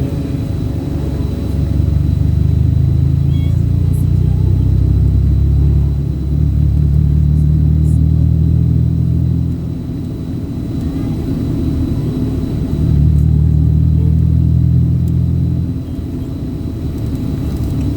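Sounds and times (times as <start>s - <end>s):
vehicle engine and road rumble: 0.0s - 17.9s.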